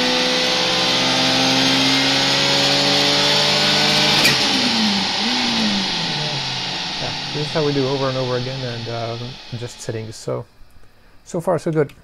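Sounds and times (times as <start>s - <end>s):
racing engine revving under load: 0.0s - 10.3s.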